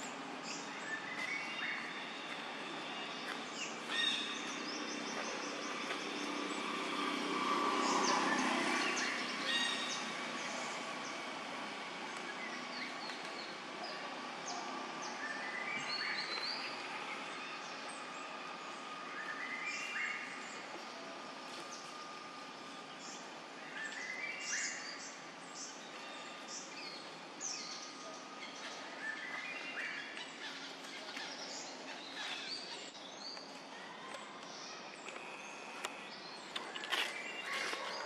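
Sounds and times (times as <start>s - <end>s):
birds chirping: 0.0s - 38.0s
steady background hiss: 0.0s - 38.0s.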